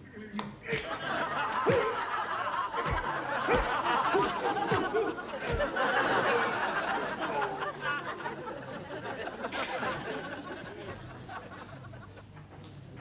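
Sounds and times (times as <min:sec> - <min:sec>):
restaurant chatter: 0:00.0 - 0:12.9.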